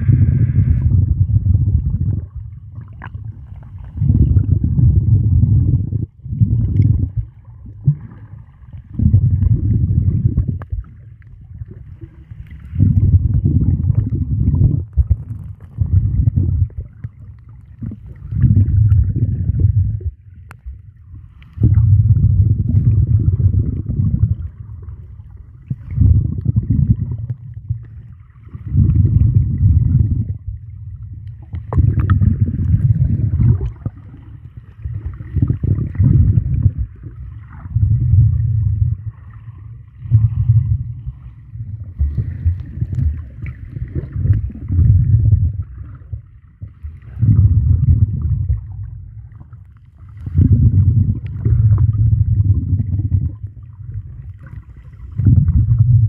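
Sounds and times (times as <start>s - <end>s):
muffled underwater rumbling surges: 0.0s - 56.0s
underwater gurgling: 0.0s - 56.0s.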